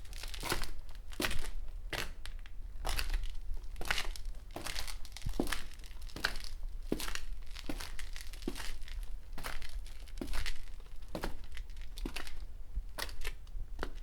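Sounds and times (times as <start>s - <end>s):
footsteps on concrete: 0.0s - 14.0s.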